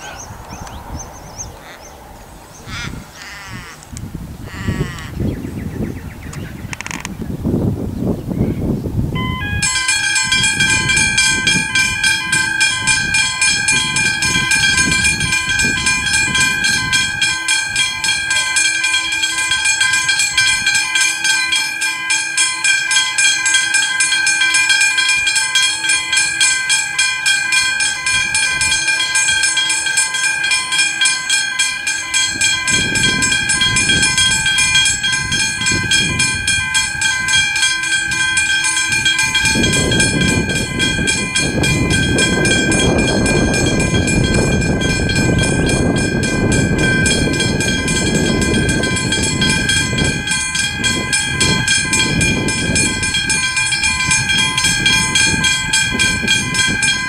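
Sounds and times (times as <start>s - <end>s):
level crossing bell ringing: 9.2s - 57.0s.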